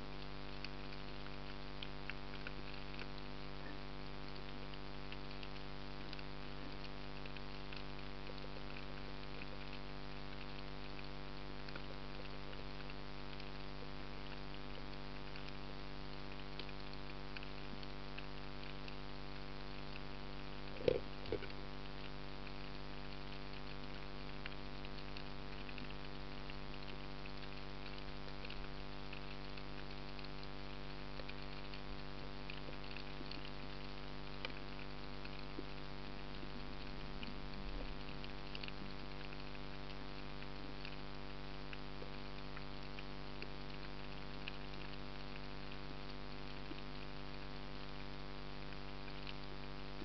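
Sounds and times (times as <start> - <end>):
constant hum: 0.0 - 50.0.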